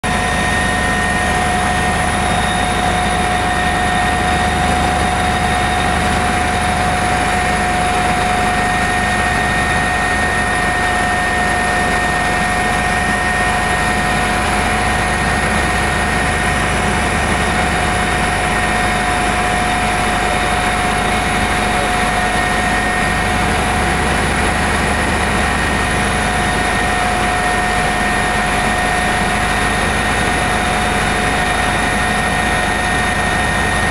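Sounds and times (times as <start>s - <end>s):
helicopter rotor and engine: 0.0s - 33.9s
high turbine whine: 0.0s - 33.9s.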